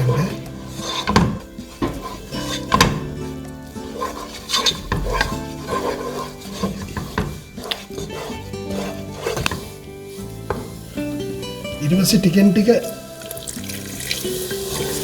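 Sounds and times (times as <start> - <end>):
utensil scraping a pan: 0.0 - 15.0.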